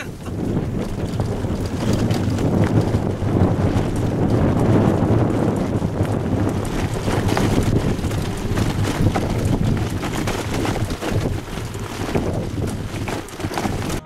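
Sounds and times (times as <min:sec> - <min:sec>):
tyres rolling on gravel: 0:00.0 - 0:14.0
wind buffeting microphone: 0:00.0 - 0:14.0.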